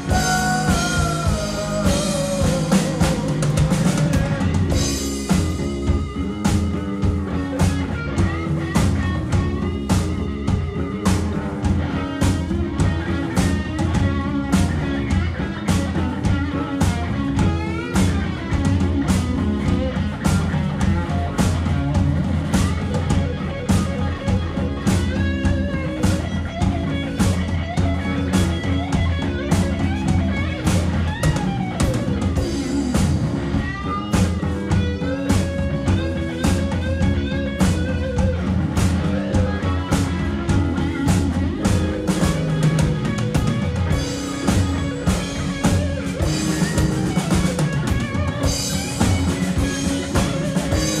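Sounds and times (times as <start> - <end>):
bass guitar: 0.0 - 51.0
drum kit beat: 0.0 - 51.0
electric guitar: 0.0 - 51.0.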